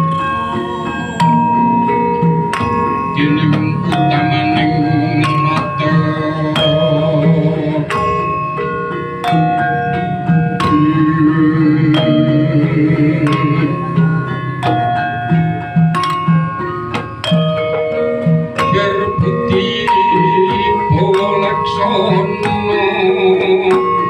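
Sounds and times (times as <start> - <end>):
gamelan metallophones playing: 0.0 - 24.0.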